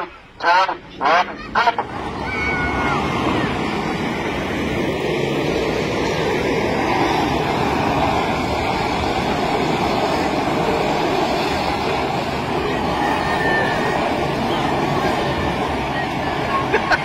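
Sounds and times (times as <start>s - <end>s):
truck engines at full throttle: 0.0s - 17.0s.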